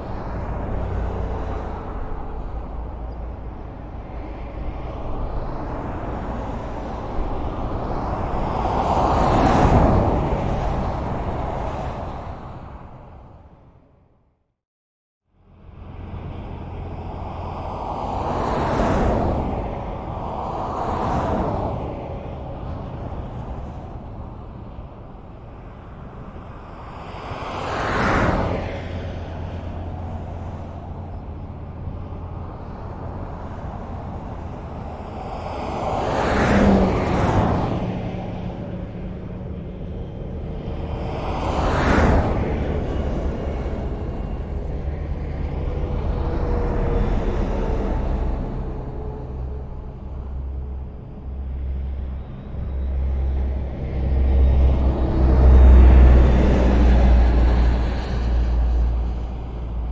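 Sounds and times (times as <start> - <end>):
vehicle passing close by: 0.0 - 13.2, 15.8 - 59.9
highway traffic rumble: 0.0 - 14.5, 15.2 - 59.9.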